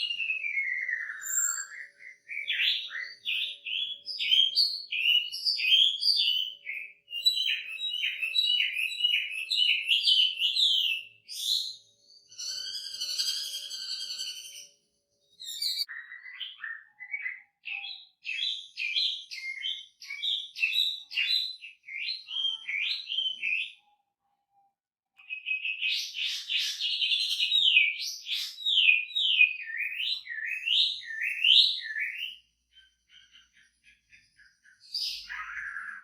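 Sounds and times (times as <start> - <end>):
songbird singing whistled notes: 0.0 - 24.5, 25.2 - 36.0.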